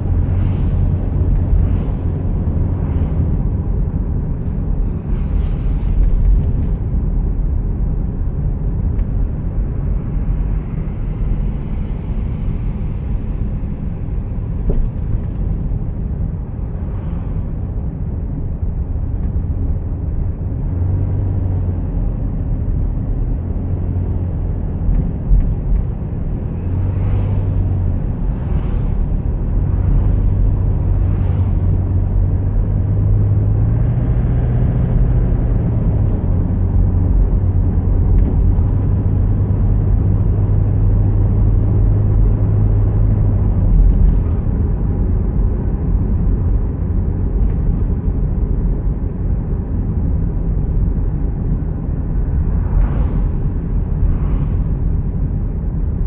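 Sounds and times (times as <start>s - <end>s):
tyres and engine rumble: 0.0s - 56.0s.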